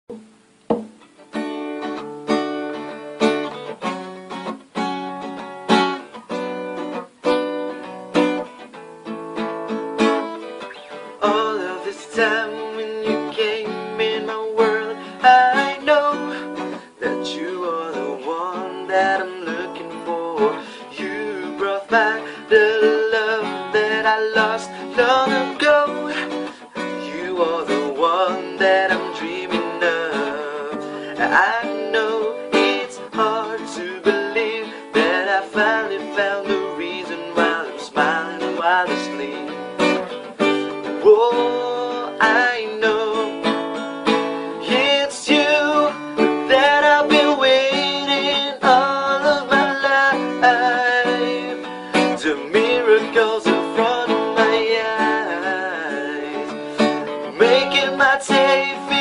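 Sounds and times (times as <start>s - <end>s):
strummed acoustic guitar: 0.1s - 59.0s
person singing: 10.3s - 59.0s.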